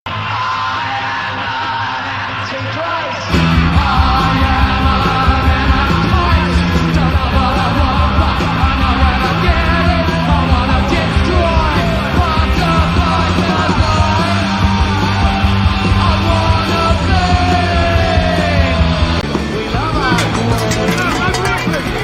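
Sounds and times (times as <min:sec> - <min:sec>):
driving bass line: 0:03.3 - 0:22.0
punk rock band playing: 0:03.3 - 0:22.0.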